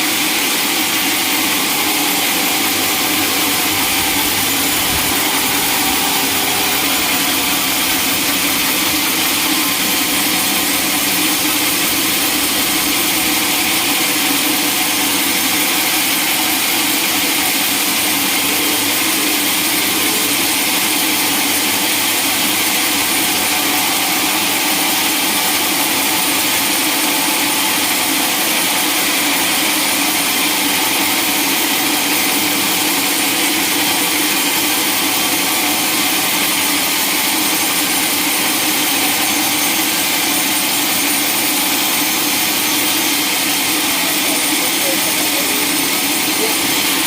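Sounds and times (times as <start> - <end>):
sawmill saw running: 0.0 - 47.0.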